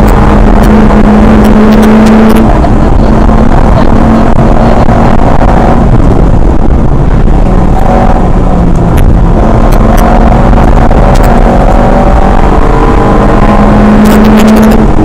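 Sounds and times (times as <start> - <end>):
rally car engine at high revs: 0.0 - 15.0
road and tyre noise: 0.0 - 15.0.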